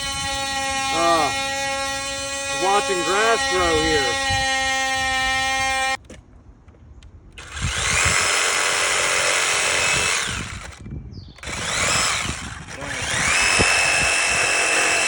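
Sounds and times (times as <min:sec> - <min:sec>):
reciprocating saw cutting wood: 0:00.0 - 0:06.0, 0:07.4 - 0:10.8, 0:11.4 - 0:15.0.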